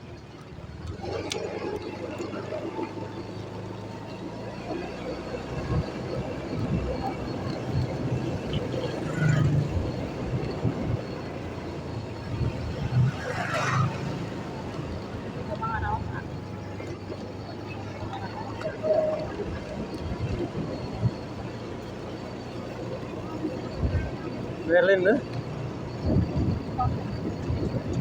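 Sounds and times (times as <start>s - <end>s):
motorcycle engine running: 0.0s - 28.0s
road noise: 0.0s - 28.0s.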